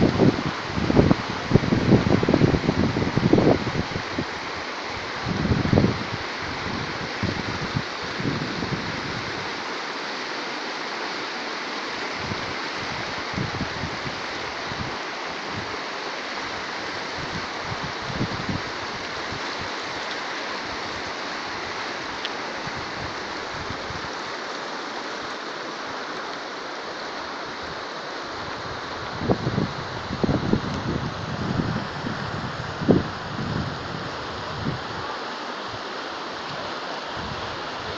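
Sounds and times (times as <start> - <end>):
river rushing over stones: 0.0 - 37.9.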